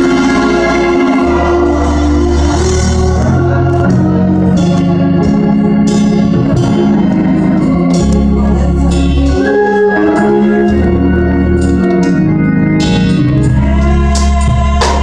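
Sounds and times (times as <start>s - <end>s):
gospel organ chords: 0.0s - 15.0s.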